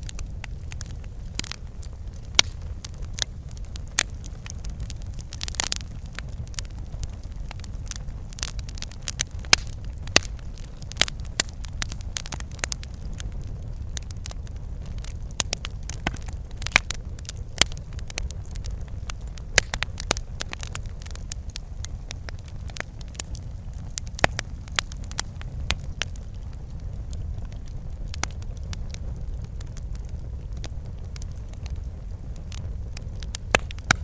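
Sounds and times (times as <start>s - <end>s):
fire rumbling: 0.0s - 34.0s
logs crackling and popping: 0.0s - 34.0s.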